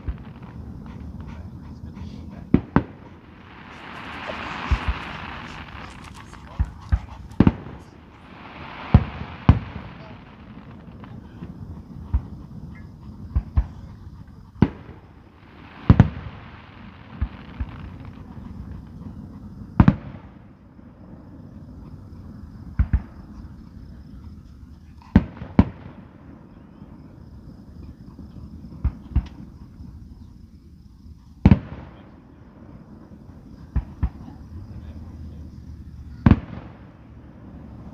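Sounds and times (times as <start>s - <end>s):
fireworks booming: 0.0s - 21.6s, 25.2s - 29.7s, 31.4s - 34.7s, 35.7s - 37.9s
fireworks crackling hiss: 0.0s - 37.9s.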